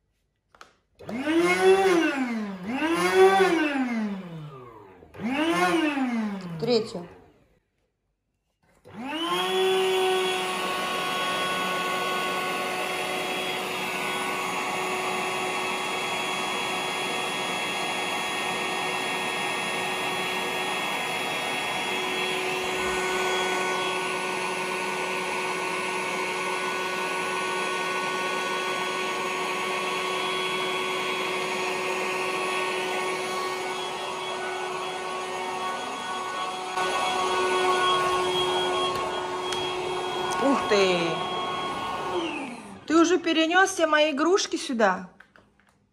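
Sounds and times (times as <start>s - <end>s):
electric air pump motor whining: 1.0s - 6.9s, 8.9s - 43.3s.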